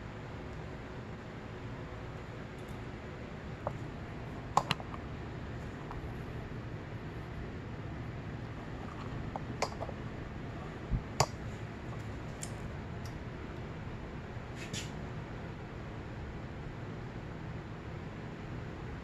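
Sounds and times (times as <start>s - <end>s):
steady low background noise: 0.0s - 19.0s.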